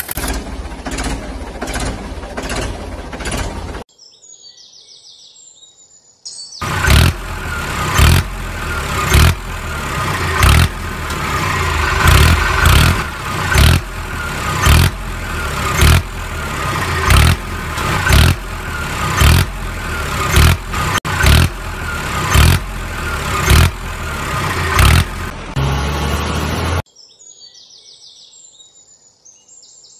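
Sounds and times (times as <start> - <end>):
tractor engine running hard: 0.0 - 3.8, 6.6 - 26.9.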